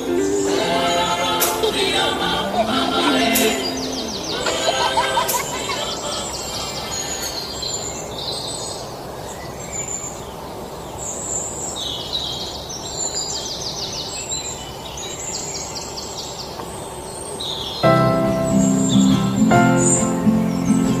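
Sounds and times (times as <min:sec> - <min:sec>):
birds chirping: 0:00.0 - 0:21.0
outdoor background noise: 0:00.0 - 0:21.0.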